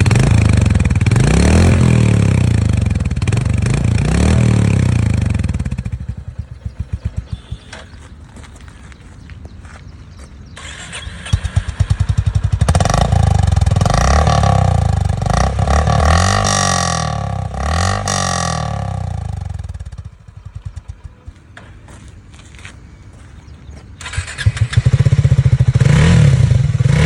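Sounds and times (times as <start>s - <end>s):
motorcycle engine revving: 0.0s - 8.3s, 10.5s - 21.8s, 24.0s - 27.0s.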